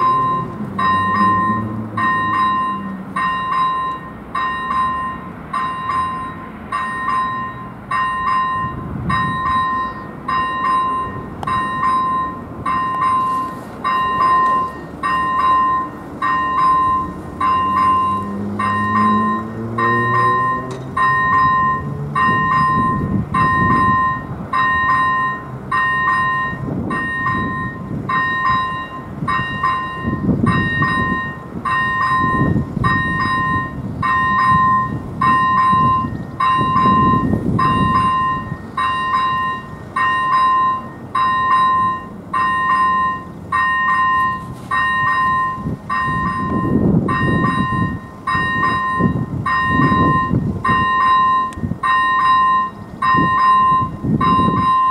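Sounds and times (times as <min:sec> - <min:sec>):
level crossing bell beeping: 0:00.0 - 0:54.9.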